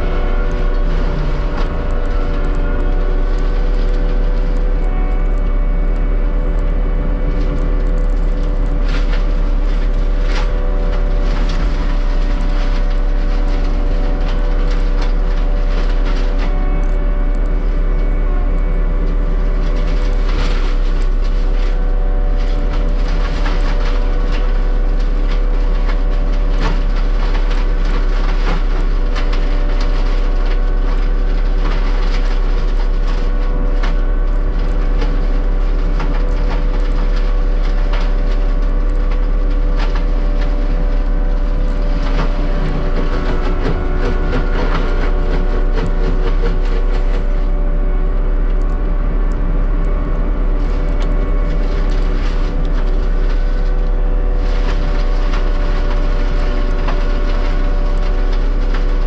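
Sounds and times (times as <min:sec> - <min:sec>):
diesel machinery running: 0:00.0 - 0:59.0
wood and brush breaking: 0:00.0 - 0:59.0.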